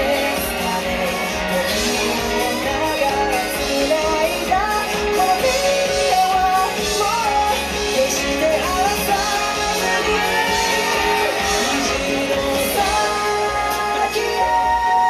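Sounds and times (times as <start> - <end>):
pop song over sound system: 0.0 - 15.0.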